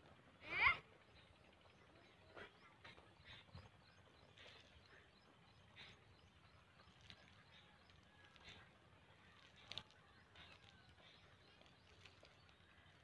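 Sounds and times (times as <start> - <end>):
faint bird chirps: 0.4 - 13.0.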